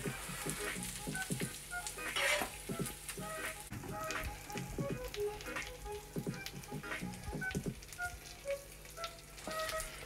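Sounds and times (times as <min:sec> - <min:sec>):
sauce sizzling in a frying pan: 0:00.0 - 0:10.0
sizzling pops: 0:00.0 - 0:10.0.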